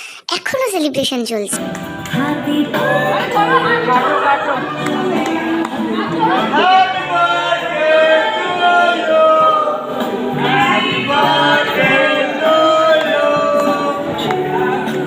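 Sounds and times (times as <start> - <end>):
song with sung vocals: 1.6 - 15.0.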